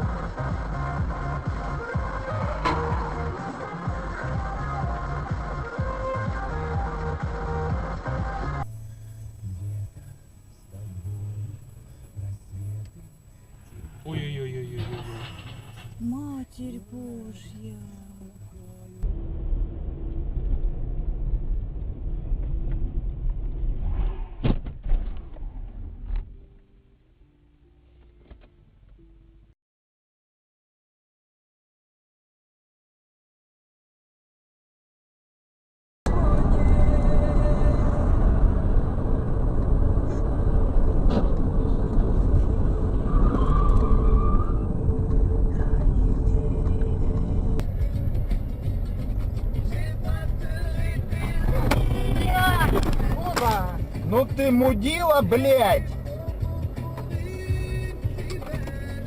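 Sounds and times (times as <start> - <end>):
car driving rumble: 0.0 - 26.4, 36.1 - 59.0.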